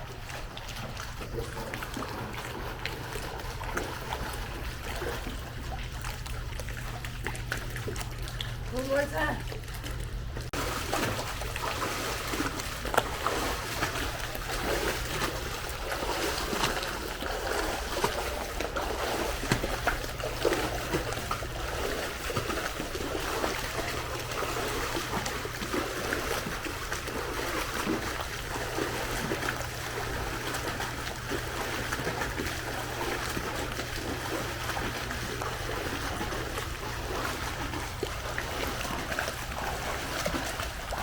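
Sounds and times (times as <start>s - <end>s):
pool water splashing: 0.0s - 41.0s
steady low hum: 0.0s - 41.0s.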